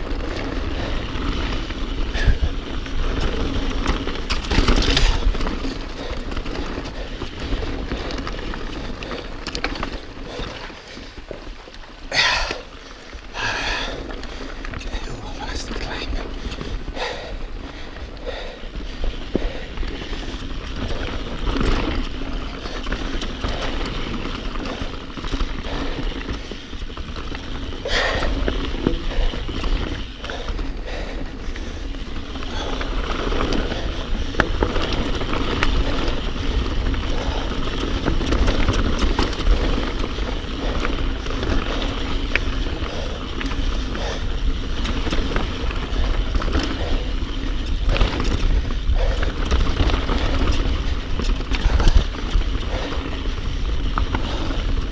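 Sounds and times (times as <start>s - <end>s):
bike rattling and knocking: 0.0s - 54.9s
tyres rolling over dirt and stones: 0.0s - 54.9s.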